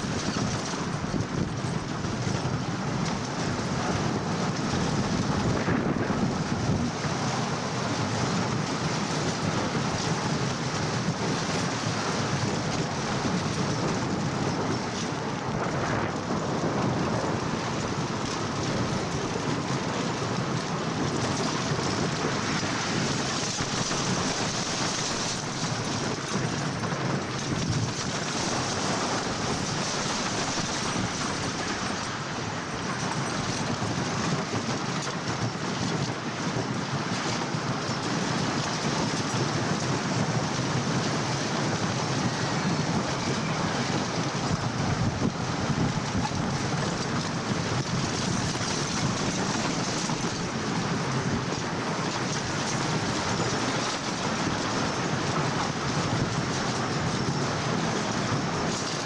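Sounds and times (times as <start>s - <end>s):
wind buffeting microphone: 0.0s - 59.0s
wooden roller coaster rumbling: 0.0s - 59.0s.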